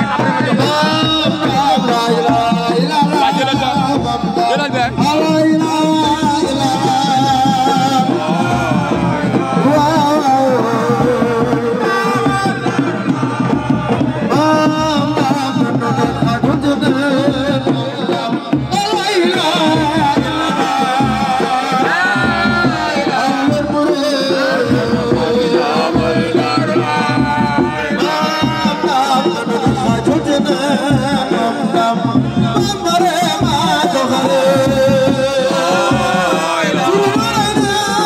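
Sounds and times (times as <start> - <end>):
drums: 0.0 - 38.0
religious chant singing: 0.0 - 38.0.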